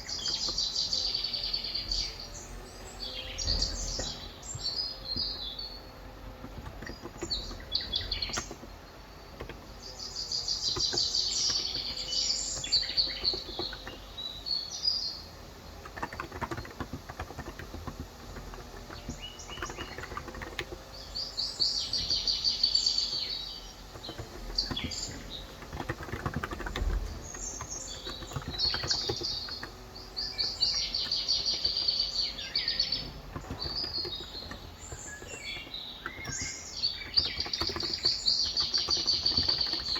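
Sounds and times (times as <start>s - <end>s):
birds chirping in trills: 0.0s - 39.9s
soft keyboard typing: 0.0s - 39.9s.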